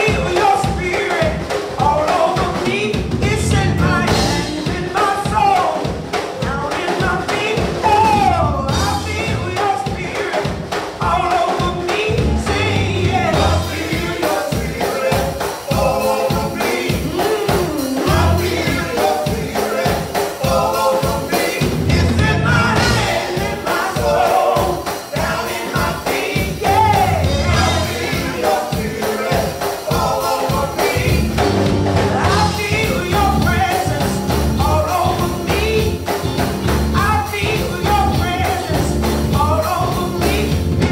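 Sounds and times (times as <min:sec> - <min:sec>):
accompaniment with steady beat: 0:00.0 - 0:40.9
gospel group singing: 0:00.0 - 0:40.9.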